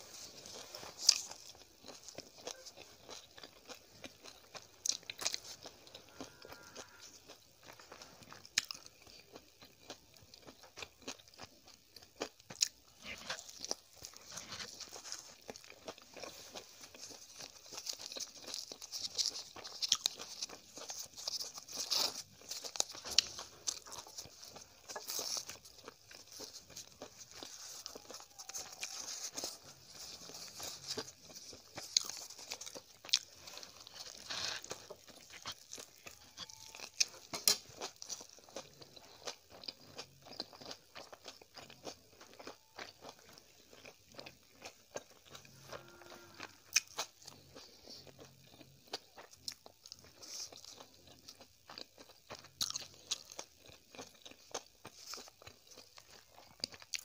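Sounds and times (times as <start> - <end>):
soft crunching bites: 0.2 - 57.0.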